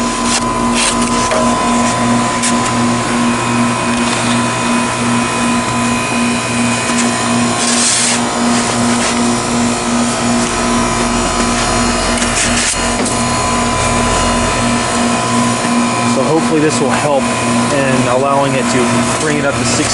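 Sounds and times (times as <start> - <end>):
heat pump fan humming: 0.0 - 19.9.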